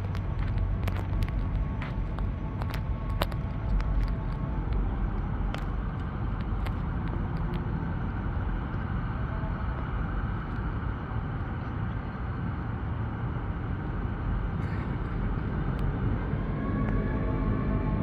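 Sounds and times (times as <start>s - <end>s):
distant city traffic rumble: 0.0s - 18.0s.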